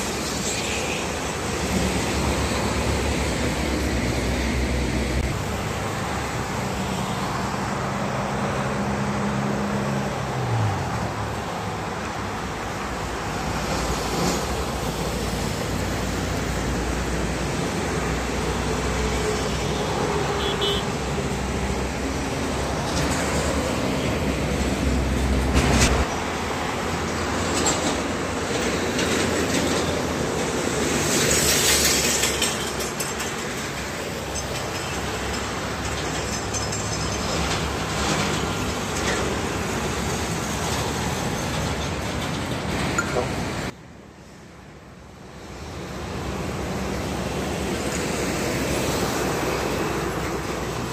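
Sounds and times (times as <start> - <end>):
trucks and cars passing: 0.0 - 50.9.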